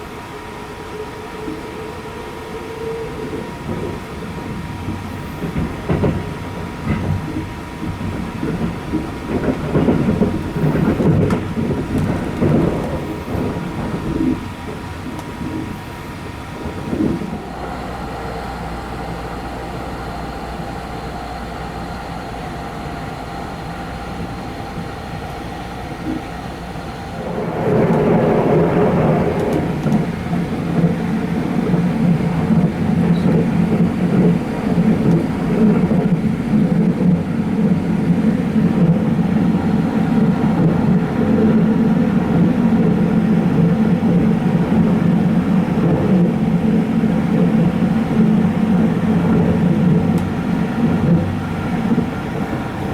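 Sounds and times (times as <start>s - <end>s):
electric train rumble and whine: 0.0s - 52.9s.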